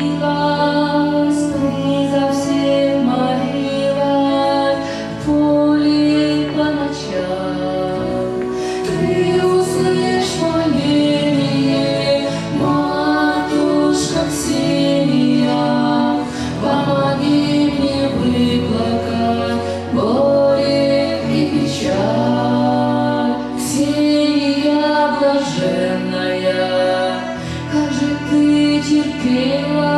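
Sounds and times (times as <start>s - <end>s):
musical accompaniment: 0.0s - 29.9s
woman singing into a microphone: 0.0s - 29.9s.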